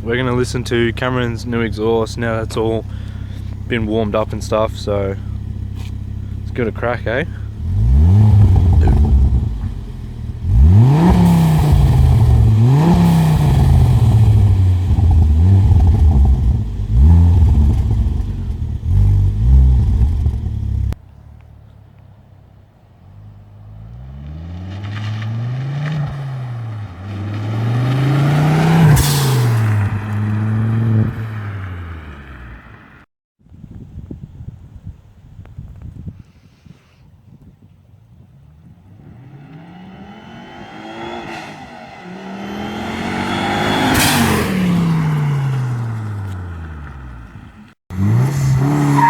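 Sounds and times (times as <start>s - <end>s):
car engine revving: 0.0s - 21.0s, 23.1s - 32.9s, 38.4s - 49.0s.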